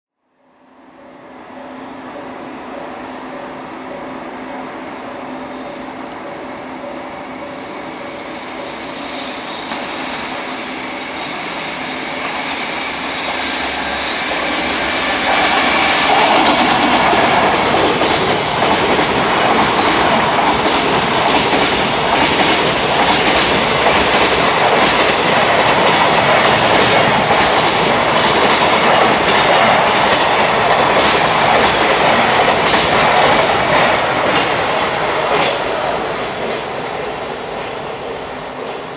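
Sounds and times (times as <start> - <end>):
train rumble: 1.2 - 38.9.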